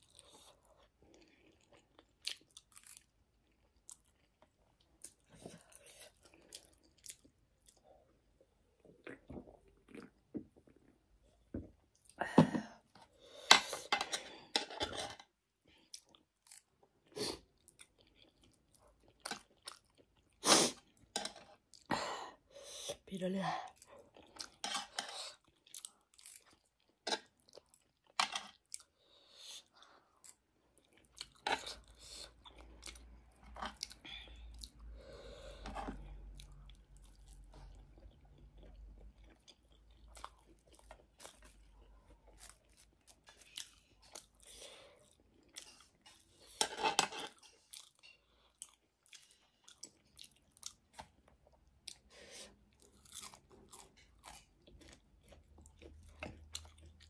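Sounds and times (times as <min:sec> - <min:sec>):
chewing and crunching food: 0:00.0 - 0:12.2, 0:12.9 - 0:22.0, 0:22.9 - 0:57.0.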